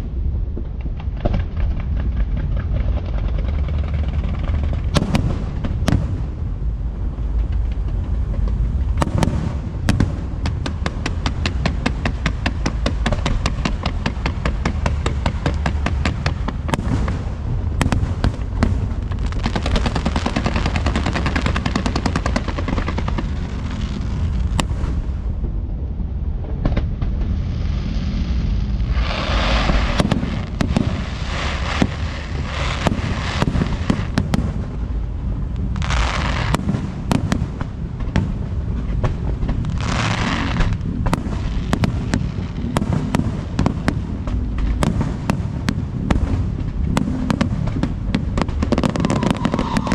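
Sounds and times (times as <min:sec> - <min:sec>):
firework bangs and crackles: 0:00.0 - 0:49.9
low booming: 0:00.0 - 0:49.9
hissing crackle: 0:01.0 - 0:25.6, 0:26.7 - 0:49.9.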